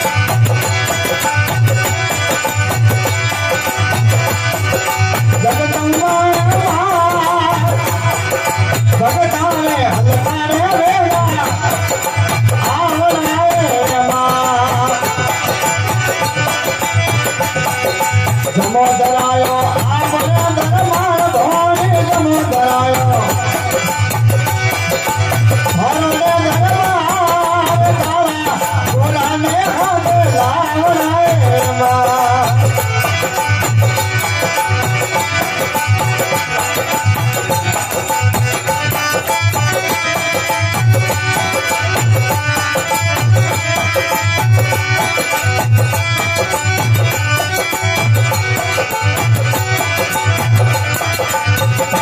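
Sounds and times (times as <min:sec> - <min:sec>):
hand drum beat: 0:00.0 - 0:52.0.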